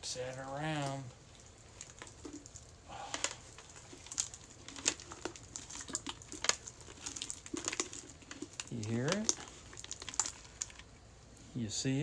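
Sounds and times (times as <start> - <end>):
slime crackling and popping: 0.0 - 11.0.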